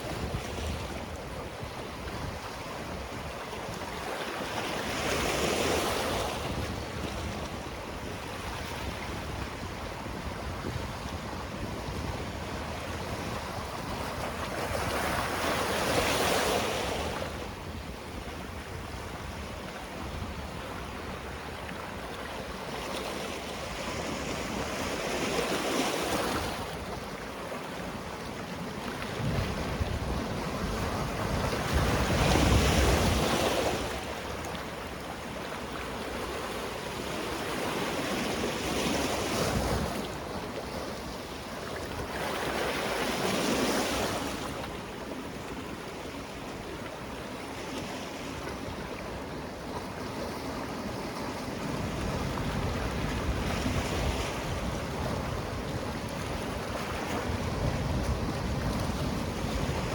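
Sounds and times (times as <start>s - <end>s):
sea waves breaking on shore: 0.0s - 59.9s
surf washing: 0.0s - 59.9s.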